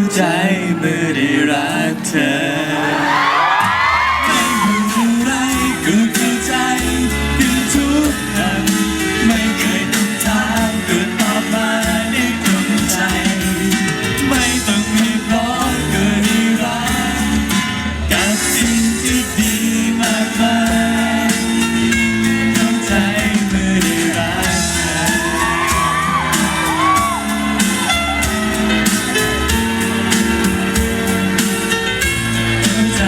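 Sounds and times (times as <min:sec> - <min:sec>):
guitar: 0:03.4 - 0:33.0
bass: 0:03.5 - 0:33.0
drums: 0:03.5 - 0:33.0.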